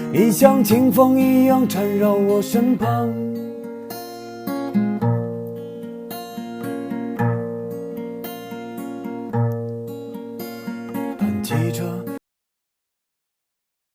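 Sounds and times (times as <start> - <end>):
acoustic guitar chords ringing: 0.0 - 12.2.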